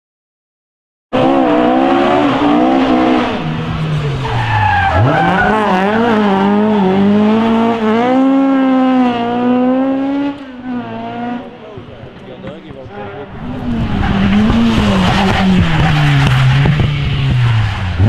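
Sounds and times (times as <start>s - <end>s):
rally car engine revving: 1.1s - 18.0s.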